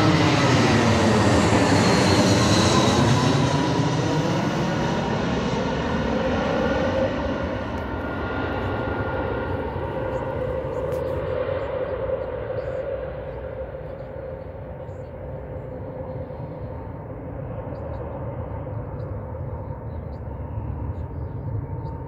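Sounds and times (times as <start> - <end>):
jet engines droning: 0.0 - 22.0.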